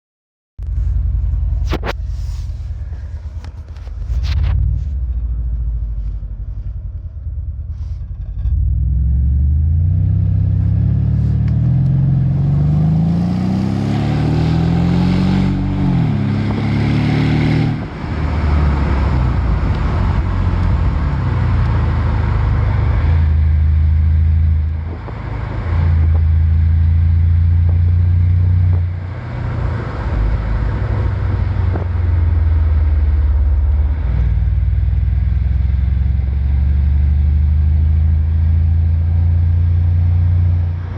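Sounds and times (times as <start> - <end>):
car engine revving: 0.6 - 40.9
deep exhaust drone: 0.6 - 40.9.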